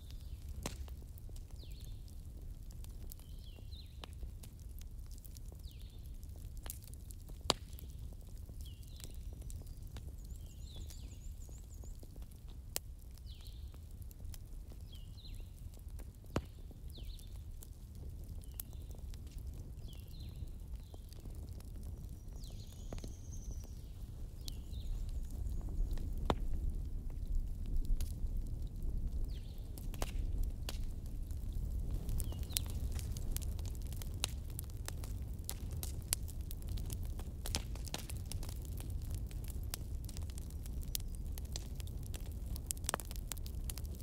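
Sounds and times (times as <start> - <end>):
bonfire crackling: 0.0 - 44.0.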